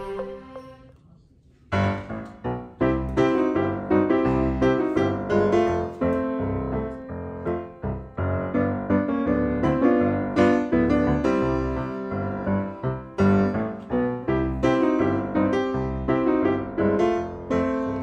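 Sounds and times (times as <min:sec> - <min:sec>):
piano music: 0:00.0 - 0:00.9, 0:01.7 - 0:18.0.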